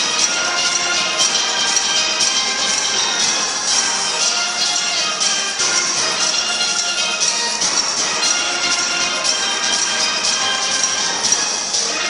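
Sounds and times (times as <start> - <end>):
percussion rattle: 0.0 - 12.0
steelpans ringing: 0.0 - 12.0.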